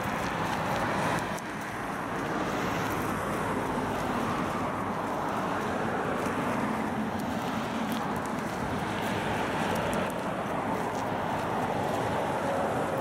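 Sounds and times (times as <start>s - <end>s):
cars passing at highway speed: 0.0s - 13.0s.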